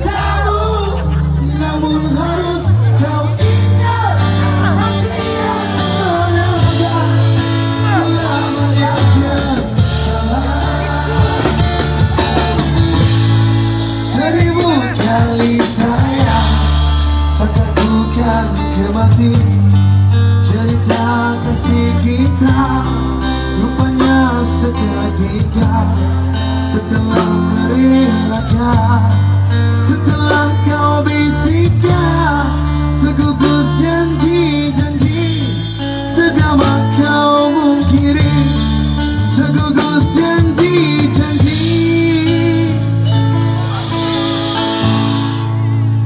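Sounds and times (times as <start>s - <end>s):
person singing: 0.0s - 13.2s, 13.9s - 46.0s
live band playing: 0.0s - 46.0s.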